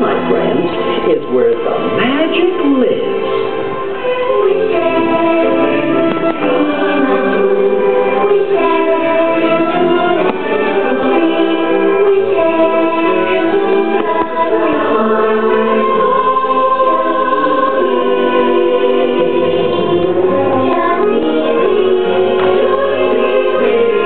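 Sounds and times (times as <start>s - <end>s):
choir singing held notes: 3.4s - 24.0s.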